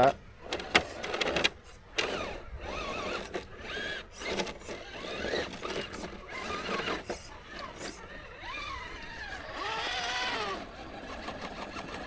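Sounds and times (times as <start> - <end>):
electric motor and gears whining: 0.0 - 12.0.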